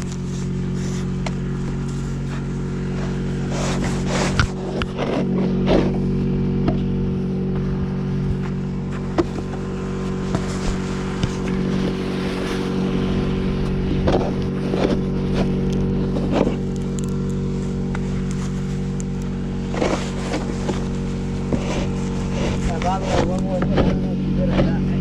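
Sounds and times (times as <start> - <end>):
car engine idling: 0.0 - 25.0
short scrapes and knocks: 0.0 - 25.0.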